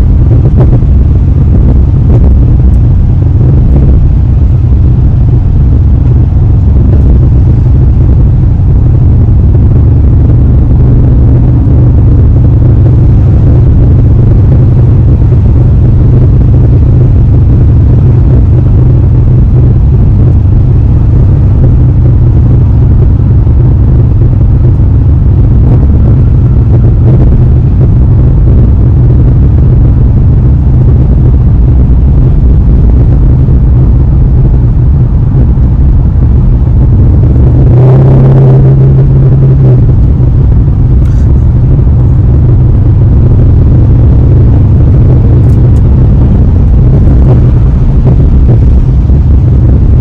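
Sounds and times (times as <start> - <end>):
car exhaust low rumble: 0.0 - 50.0.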